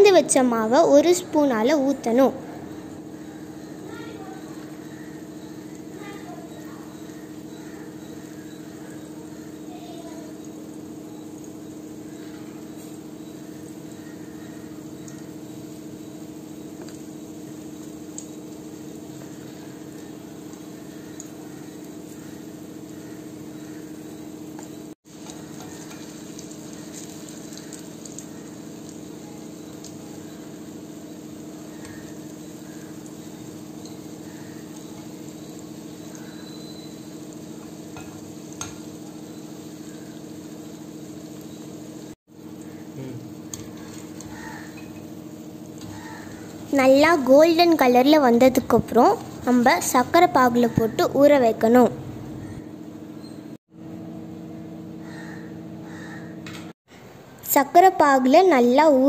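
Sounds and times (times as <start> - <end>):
batter sizzling in hot oil: 0.0 - 51.9
steady hum: 0.0 - 57.4.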